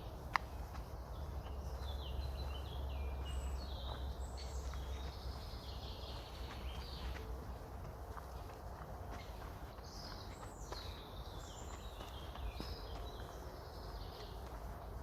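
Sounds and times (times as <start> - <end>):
low wind rumble: 0.0 - 15.0
songbirds singing: 0.0 - 15.0.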